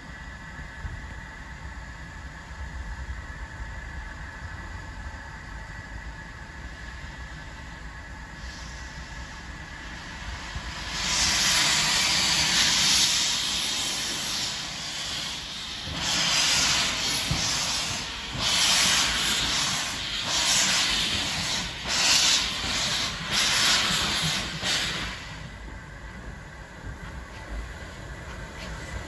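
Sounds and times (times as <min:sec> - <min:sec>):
steam locomotive hissing steam: 0:00.0 - 0:29.0.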